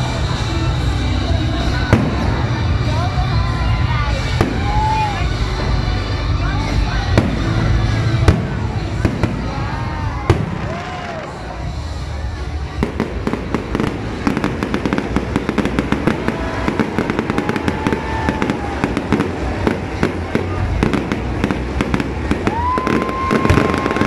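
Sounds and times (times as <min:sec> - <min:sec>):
fireworks crackling bangs: 0:00.0 - 0:24.0.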